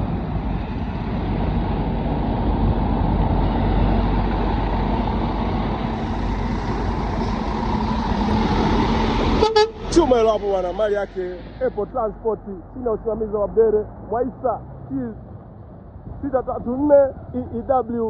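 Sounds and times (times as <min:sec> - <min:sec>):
road and wind noise: 0:00.0 - 0:18.0
truck diesel engine drone: 0:00.0 - 0:18.0.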